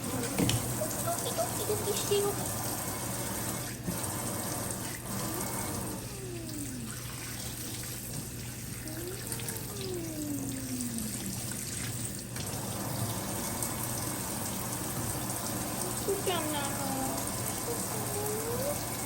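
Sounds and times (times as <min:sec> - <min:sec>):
shower water running: 0:00.0 - 0:19.0.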